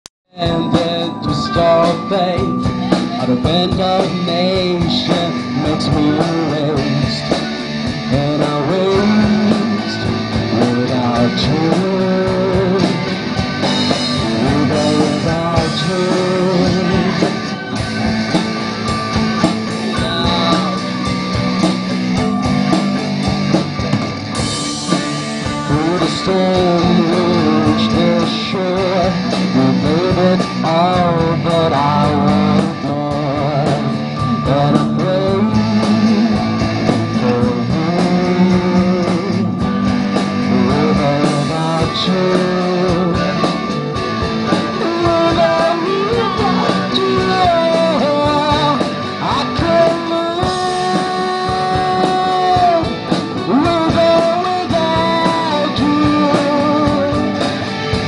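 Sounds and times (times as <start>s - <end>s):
live rock band playing: 0.3s - 58.0s.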